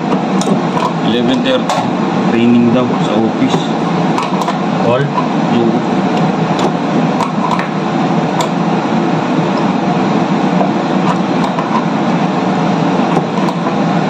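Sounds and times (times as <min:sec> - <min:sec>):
ship machinery rumble: 0:00.0 - 0:14.0.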